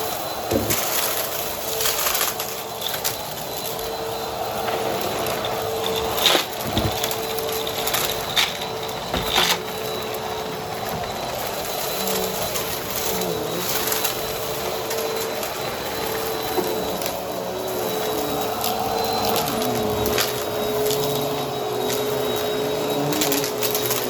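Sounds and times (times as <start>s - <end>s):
vacuum cleaner motor hum: 0.0s - 24.0s
brushroll crunching debris: 0.4s - 24.0s.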